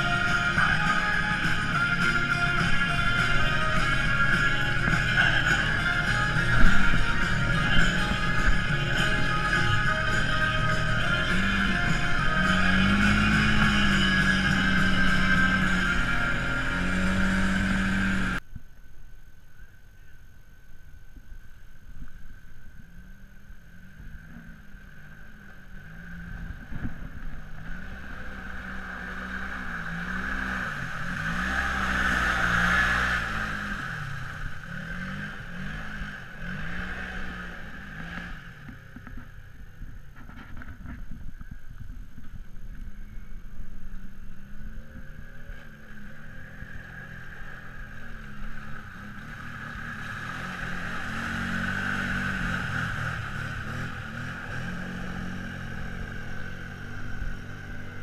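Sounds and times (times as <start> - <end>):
atv engines revving: 0.0 - 18.4, 22.8 - 58.0.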